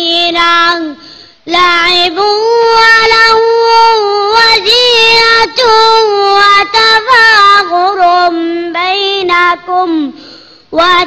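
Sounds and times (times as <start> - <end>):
boy reciting melodically: 0.0 - 11.0.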